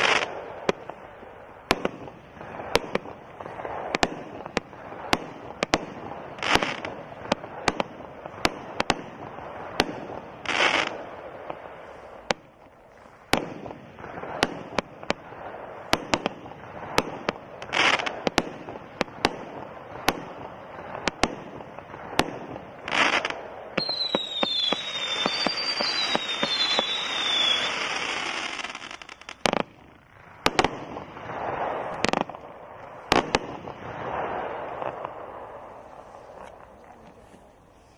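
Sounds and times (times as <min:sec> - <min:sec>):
firework hissing and whistling: 0:00.0 - 0:36.6
firework crackling: 0:00.0 - 0:37.9
firework reports: 0:00.0 - 0:37.9.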